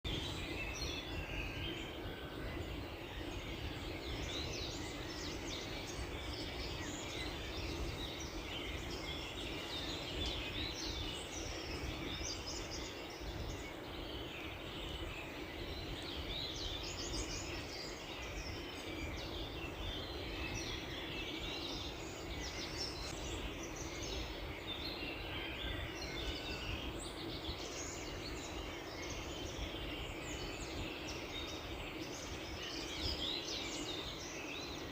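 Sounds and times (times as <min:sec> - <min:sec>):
small birds chirping and trilling: 0:00.0 - 0:34.9.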